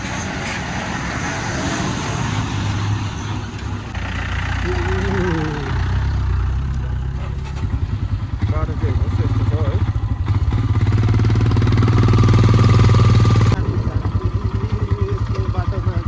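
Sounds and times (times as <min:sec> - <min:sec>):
vehicle engines droning: 0:00.0 - 0:16.0.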